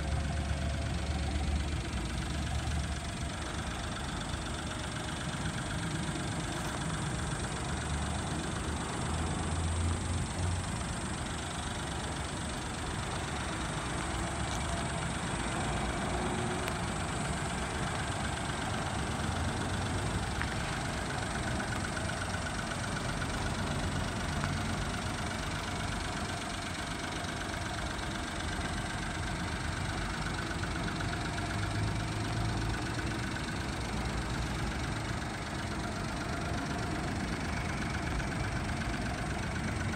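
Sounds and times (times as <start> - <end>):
small truck engine idling: 0.0 - 39.9.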